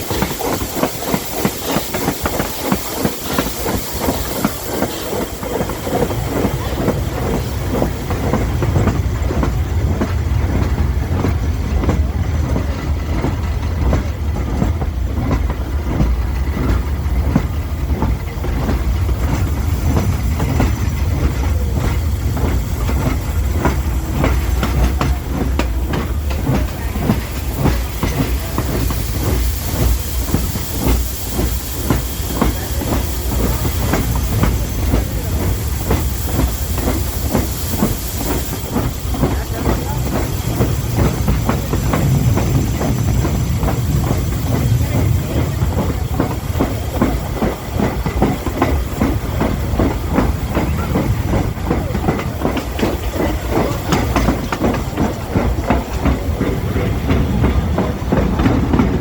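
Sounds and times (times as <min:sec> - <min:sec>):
high hiss: 0:00.0 - 0:59.0
train wheels clicking on rails: 0:00.0 - 0:59.0.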